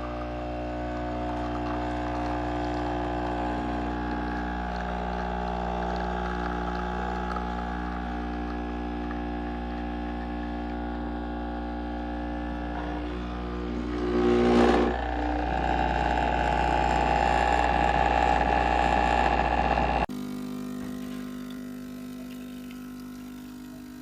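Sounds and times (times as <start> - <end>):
espresso machine pump hum: 0.0 - 24.0.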